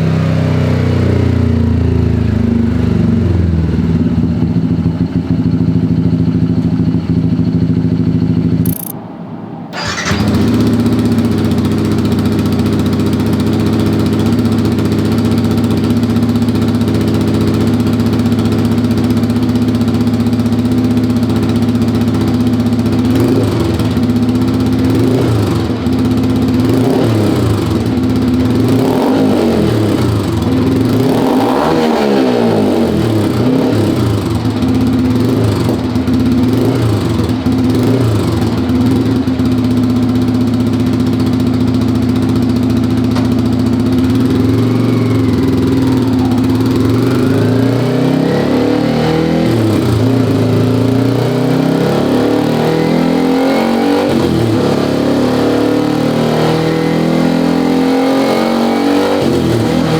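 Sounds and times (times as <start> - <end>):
motorcycle engine running: 0.0 - 8.9, 9.7 - 59.9.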